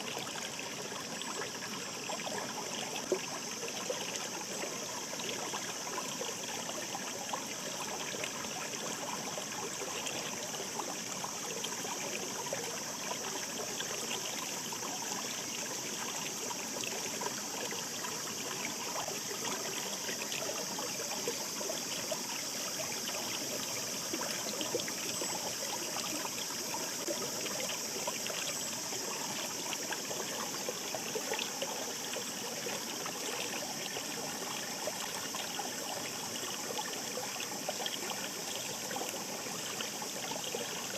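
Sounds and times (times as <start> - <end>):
mountain stream babbling: 0.0 - 40.9.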